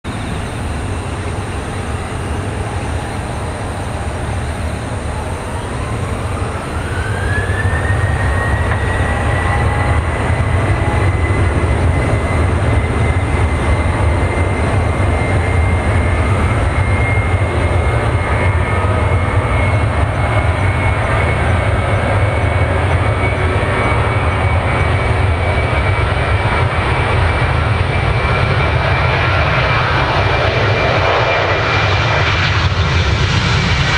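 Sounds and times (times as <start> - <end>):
jet engines spooling up: 0.1 - 33.9.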